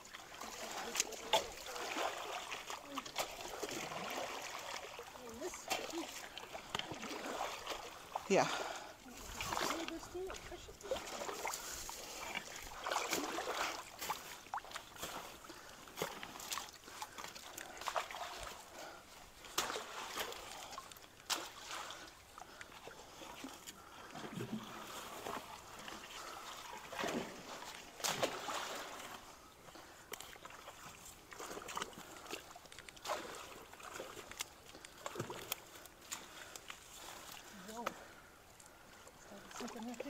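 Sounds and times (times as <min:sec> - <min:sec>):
water sloshing and splashing: 0:00.0 - 0:40.0.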